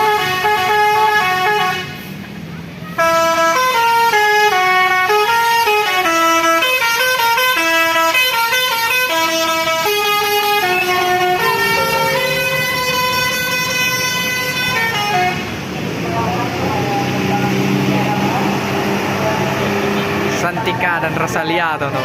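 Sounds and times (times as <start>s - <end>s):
bus horn playing a tune: 0.0s - 2.1s, 2.9s - 20.3s.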